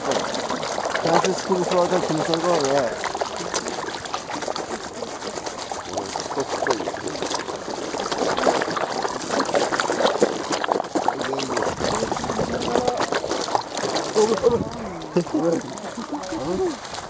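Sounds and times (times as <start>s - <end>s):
fish gulping at water surface: 0.0s - 17.0s.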